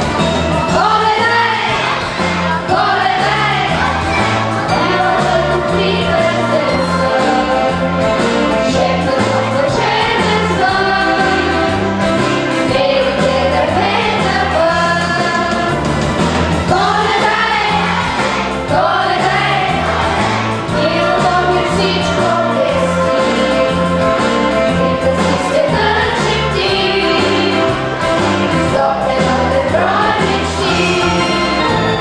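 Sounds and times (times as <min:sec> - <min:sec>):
children's choir singing: 0:00.0 - 0:32.0
instrumental accompaniment: 0:00.0 - 0:32.0.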